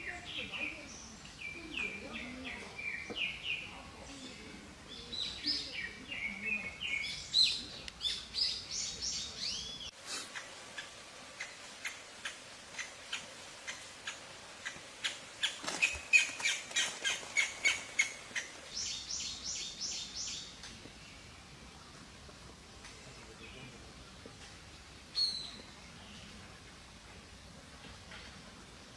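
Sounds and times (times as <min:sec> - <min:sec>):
birds chirping: 0:00.0 - 0:24.1.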